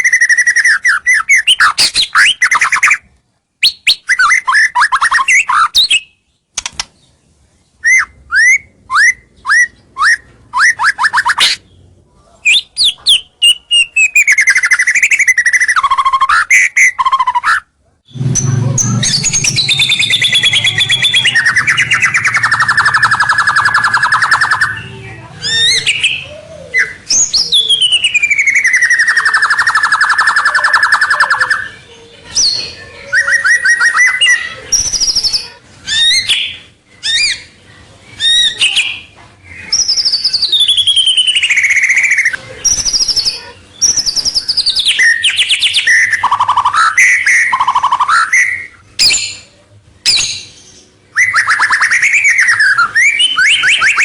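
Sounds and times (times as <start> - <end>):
bird singing chirps and whistles: 0.0 - 6.3, 7.8 - 11.7, 12.4 - 54.0.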